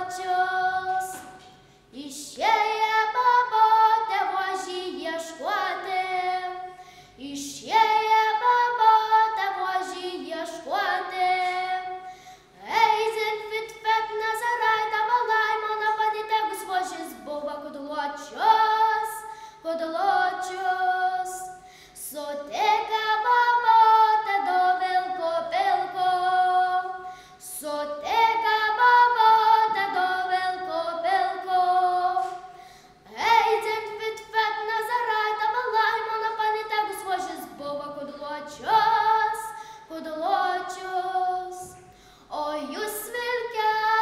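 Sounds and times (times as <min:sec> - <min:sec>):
girl singing unaccompanied: 0:00.0 - 0:44.0.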